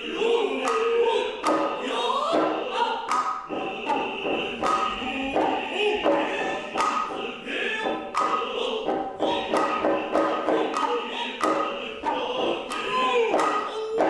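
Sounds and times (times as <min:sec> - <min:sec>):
chorus chanting: 0:00.0 - 0:14.0
sharp drum strikes: 0:00.6 - 0:14.0.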